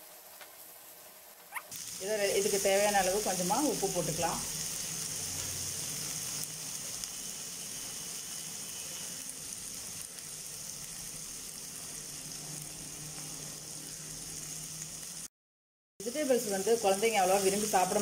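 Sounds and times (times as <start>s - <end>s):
vegetables sizzling in a frying pan: 0.0s - 15.3s, 16.0s - 18.0s.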